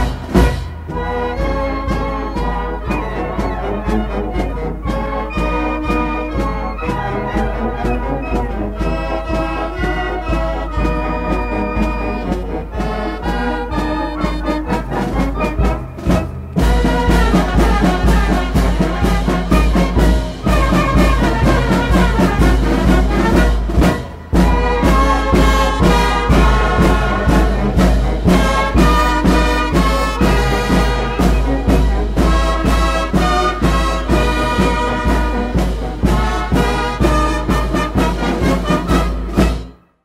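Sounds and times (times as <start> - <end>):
brass band music: 0.0 - 40.0.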